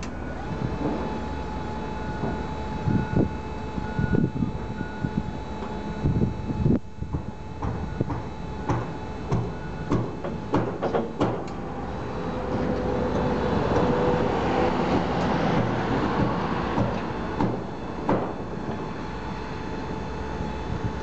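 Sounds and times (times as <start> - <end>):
steady mechanical whir: 0.0 - 21.0.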